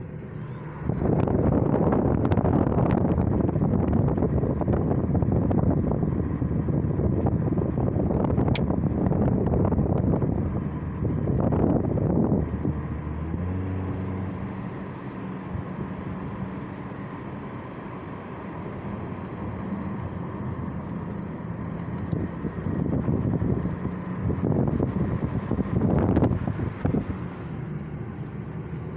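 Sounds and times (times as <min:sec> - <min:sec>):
engine humming: 0:00.0 - 0:28.9.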